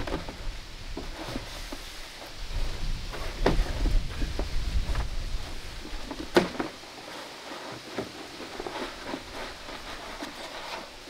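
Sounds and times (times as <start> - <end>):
rustling of materials: 0.0 - 11.0.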